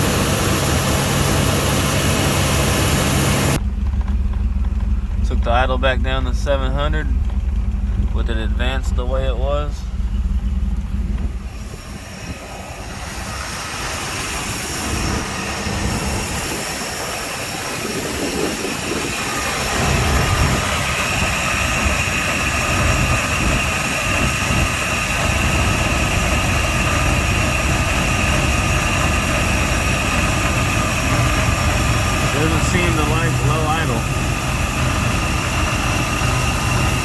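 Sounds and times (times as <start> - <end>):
engine idling low: 0.0 - 37.0
high steady whine: 0.0 - 37.0.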